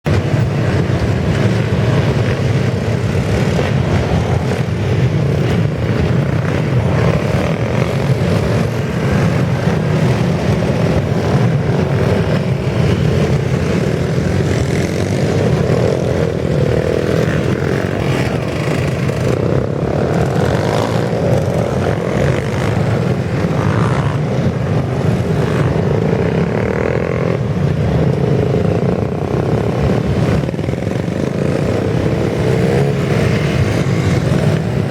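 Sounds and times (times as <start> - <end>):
motorcycle engines running: 0.1 - 34.9.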